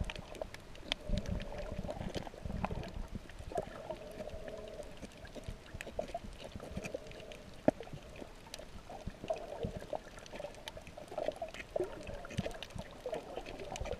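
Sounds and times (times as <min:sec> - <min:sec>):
muffled underwater gurgle: 0:00.0 - 0:13.9
sharp underwater clicks and crackles: 0:00.0 - 0:13.9.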